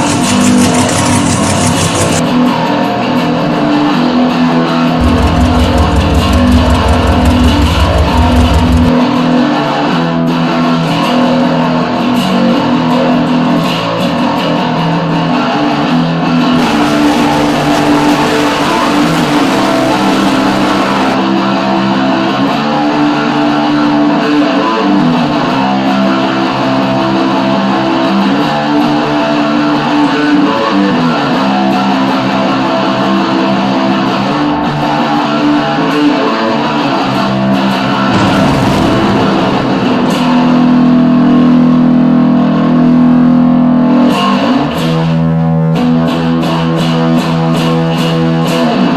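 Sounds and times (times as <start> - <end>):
electric guitar rock music: 0.0 - 48.9.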